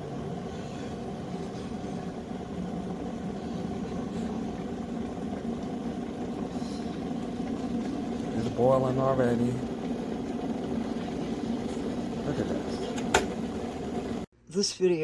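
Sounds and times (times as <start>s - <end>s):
electric kettle heating water: 0.0s - 14.3s.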